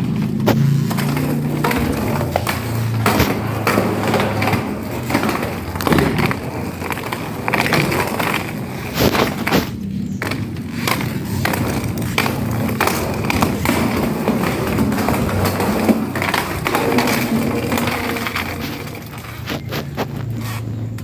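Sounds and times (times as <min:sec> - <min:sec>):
roller skates rolling: 0:00.0 - 0:21.0
skates clicking and knocking: 0:00.0 - 0:21.0.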